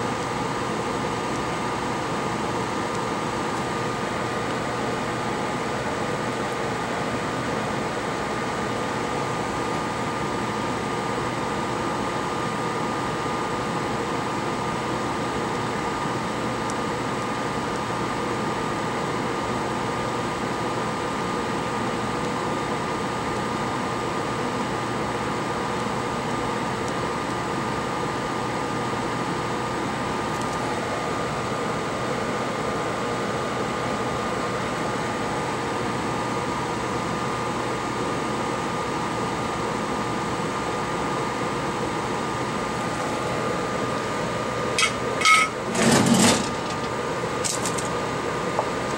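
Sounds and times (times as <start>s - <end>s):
fan whirring with high whine: 0.0s - 48.9s.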